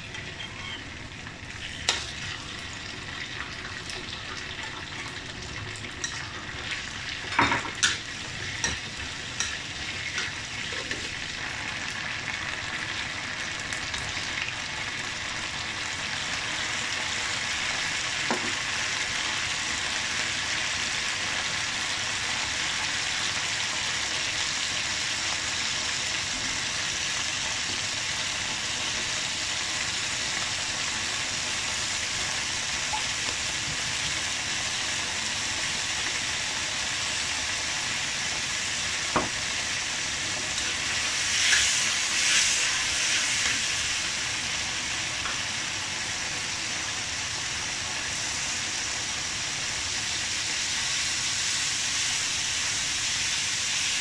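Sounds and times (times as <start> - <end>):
aromatics sizzling in hot oil: 0.0 - 54.0.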